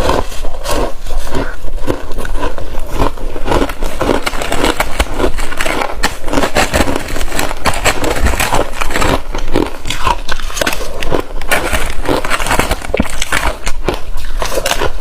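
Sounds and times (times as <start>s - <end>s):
crunchy ice chewing: 0.0s - 15.0s.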